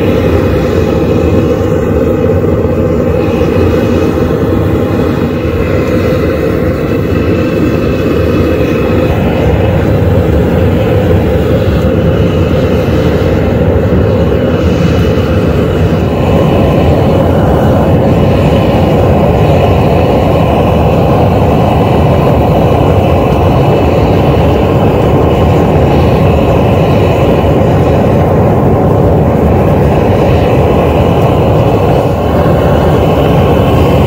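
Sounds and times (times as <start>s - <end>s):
gas forge burners roaring: 0.0s - 34.0s.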